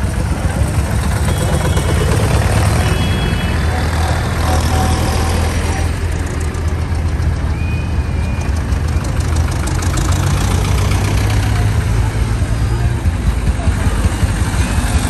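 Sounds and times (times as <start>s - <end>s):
tractor engines rumbling: 0.0s - 15.0s.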